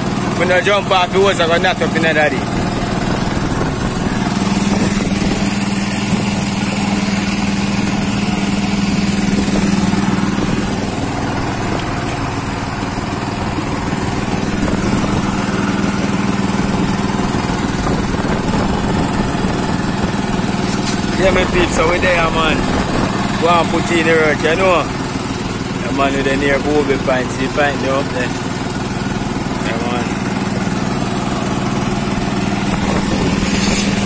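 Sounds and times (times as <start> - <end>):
boat engine running: 0.0 - 34.0
water noise: 0.0 - 34.0
wind: 0.0 - 34.0.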